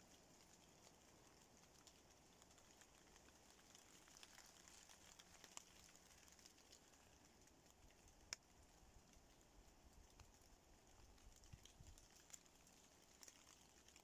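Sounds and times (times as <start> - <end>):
raindrops ticking on leaves: 0.0 - 14.0
soft steady rain hiss: 0.0 - 14.0.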